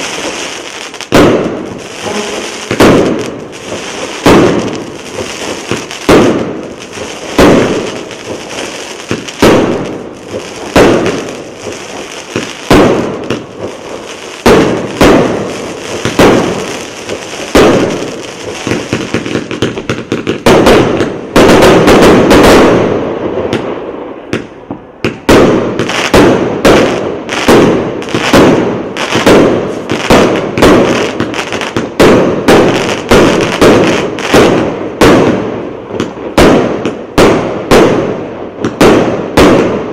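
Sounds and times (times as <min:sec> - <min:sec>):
dense fireworks crackling: 0:00.0 - 0:39.9
fireworks launching and bursting: 0:00.0 - 0:39.9.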